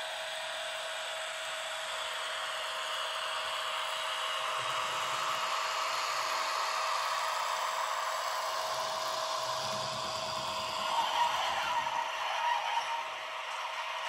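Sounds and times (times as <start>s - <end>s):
model locomotive whirring: 0.0s - 14.0s.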